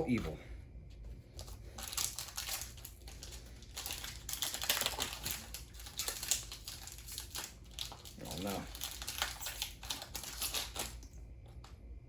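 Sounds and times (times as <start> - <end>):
foil wrapper crinkling: 1.3 - 11.2.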